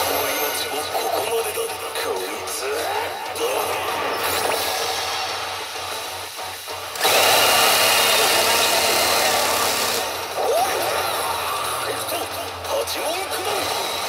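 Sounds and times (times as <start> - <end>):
pachinko machine sound effects: 0.0 - 6.3, 7.0 - 14.0.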